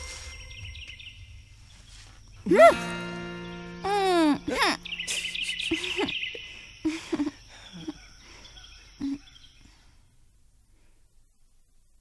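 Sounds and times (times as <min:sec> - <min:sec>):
insects chirring: 0:00.0 - 0:10.2.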